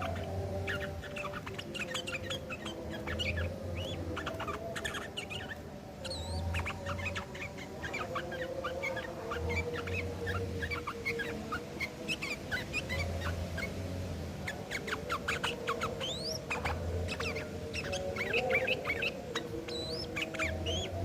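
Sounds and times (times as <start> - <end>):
bulbuls chattering: 0.0 - 21.0.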